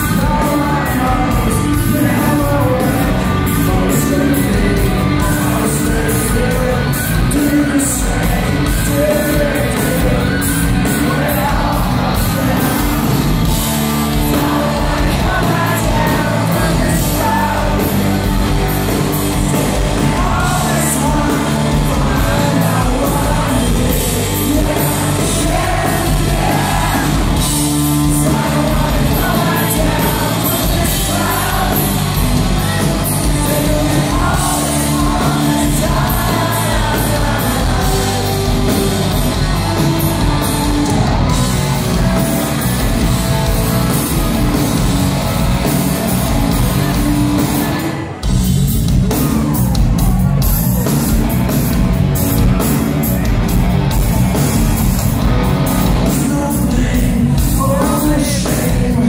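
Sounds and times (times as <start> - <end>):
live rock band with singer: 0.0 - 59.0.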